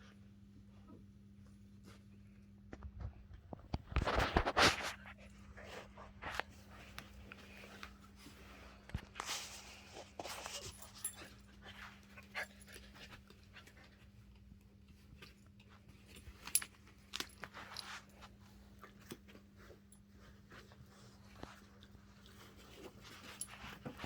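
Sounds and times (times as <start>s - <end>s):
faint steady hum: 0.0s - 24.0s
faint clicks and scuffles: 0.4s - 24.0s.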